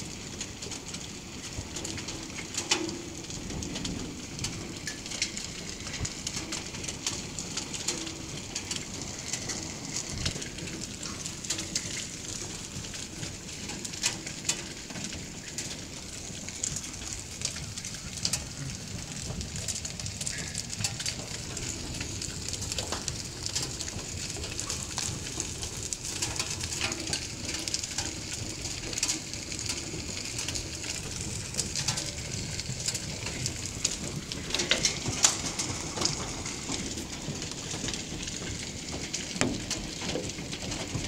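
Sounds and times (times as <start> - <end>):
hail and rain on concrete: 0.0 - 41.0.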